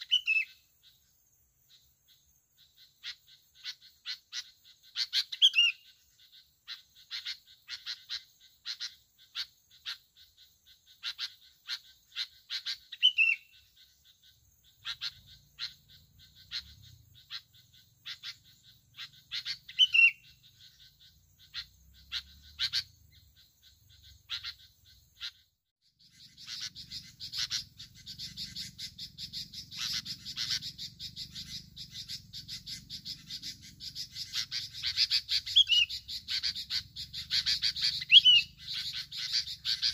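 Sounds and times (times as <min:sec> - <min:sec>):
rapid bird chirping: 0:00.0 - 0:39.9.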